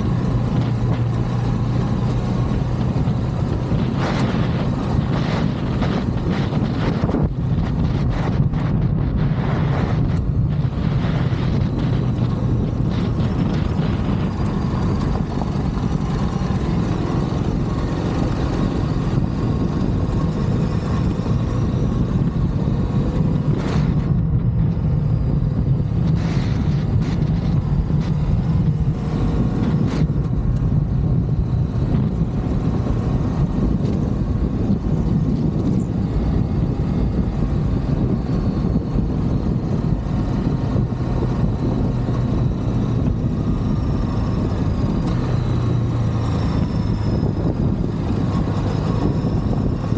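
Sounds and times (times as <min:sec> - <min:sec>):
motorcycle engine cruising: 0:00.0 - 0:49.9
wind noise: 0:00.0 - 0:49.9.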